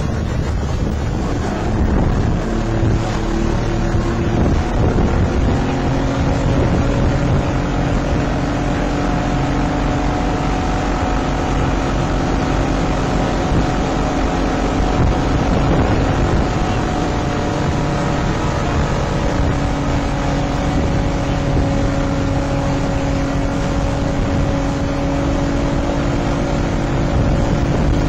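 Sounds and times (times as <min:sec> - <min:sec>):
outboard engines running at speed: 0:00.0 - 0:28.0
water against hull: 0:00.0 - 0:28.0
wind rushing on microphone: 0:00.0 - 0:28.0.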